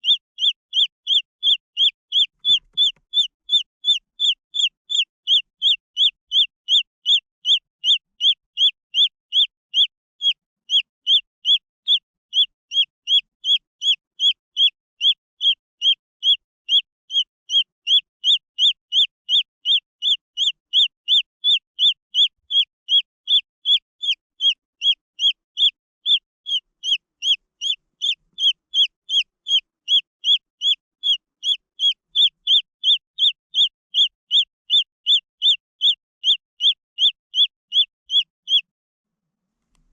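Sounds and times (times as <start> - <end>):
chick peeping: 0.0 - 38.7.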